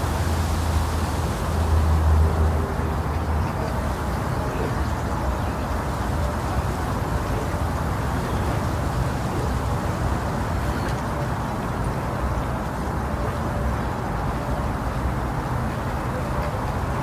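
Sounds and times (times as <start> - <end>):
low rushing white noise: 0.0 - 17.0.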